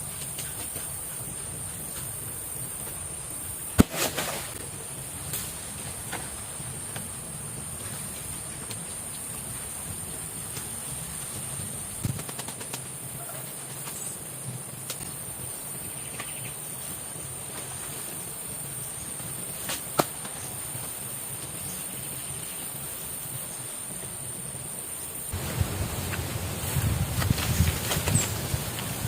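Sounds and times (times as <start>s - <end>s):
low hiss: 0.0s - 29.0s.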